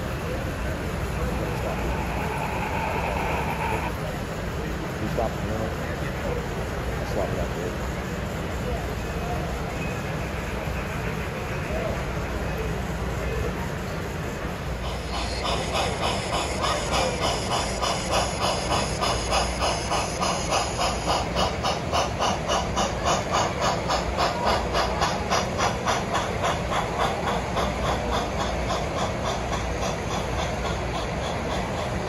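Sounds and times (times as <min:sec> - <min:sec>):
model steam locomotive chuffing: 0:00.0 - 0:32.0.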